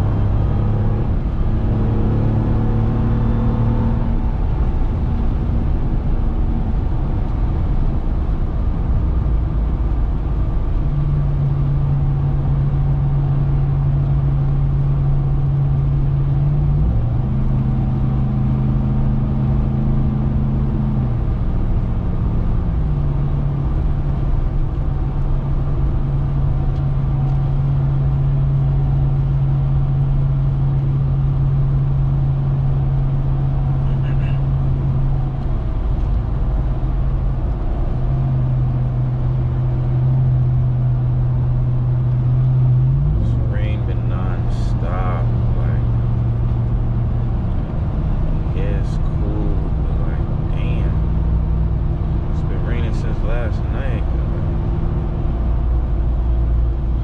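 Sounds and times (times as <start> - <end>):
road noise hum: 0.0 - 57.0
truck engine droning: 0.0 - 57.0.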